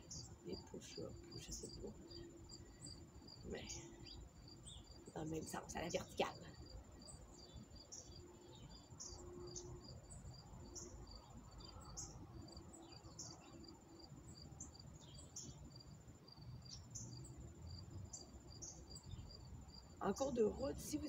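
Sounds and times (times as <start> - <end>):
cricket continuous pulsing trill: 0.0 - 21.0.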